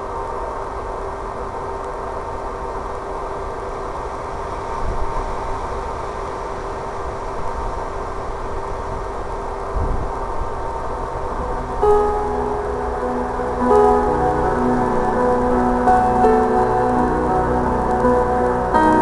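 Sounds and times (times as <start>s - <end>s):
wind gusts buffeting microphone: 0.0s - 17.8s
low hum: 0.0s - 19.0s
rushing wind: 0.0s - 19.0s.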